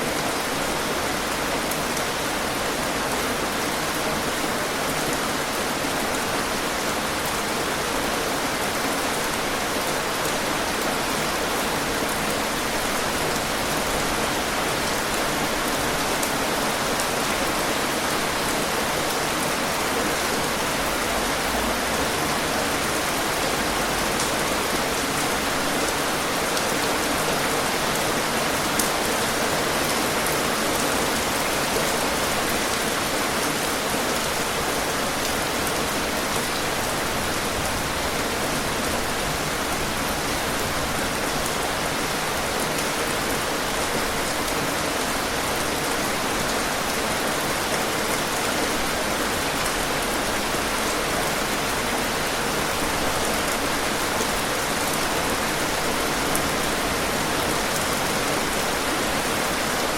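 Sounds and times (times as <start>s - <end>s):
rainfall: 0.0s - 59.9s.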